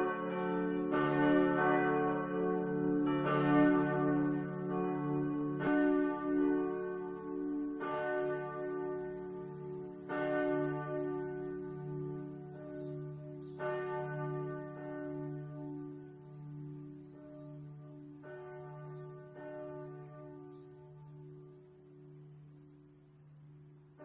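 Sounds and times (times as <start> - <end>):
church bell tolling: 0.0 - 24.0.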